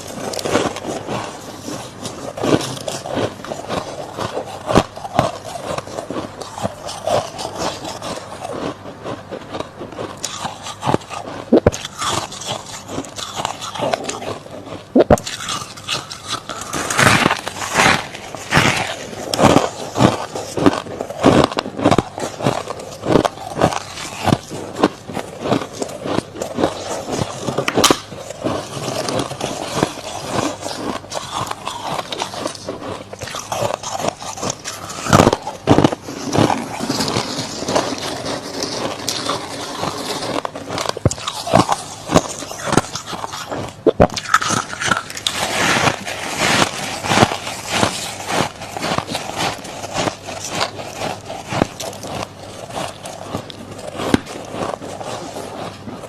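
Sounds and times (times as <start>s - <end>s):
frost crunching while chewed: 0.0s - 56.0s.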